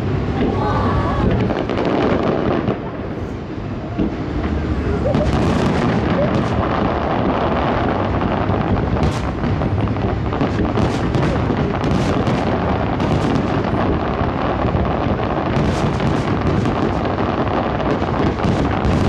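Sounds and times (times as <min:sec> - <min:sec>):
fireworks booming: 0:00.0 - 0:19.0
fireworks cracks: 0:00.0 - 0:19.0.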